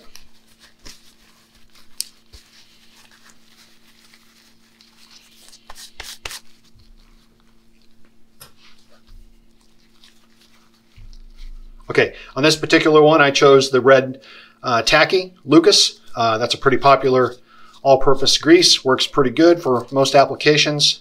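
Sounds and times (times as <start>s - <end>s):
paper towel rustling: 0.0s - 14.1s, 14.8s - 21.0s
steady low hum: 0.1s - 20.0s.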